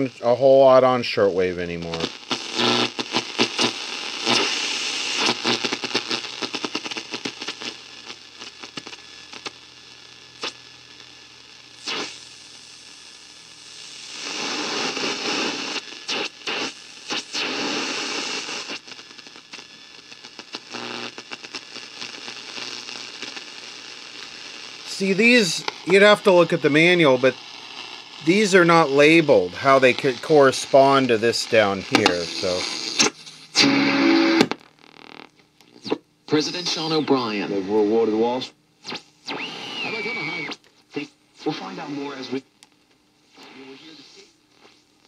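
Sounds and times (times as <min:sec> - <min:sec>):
radio static hissing and crackling: 0:00.0 - 0:45.0.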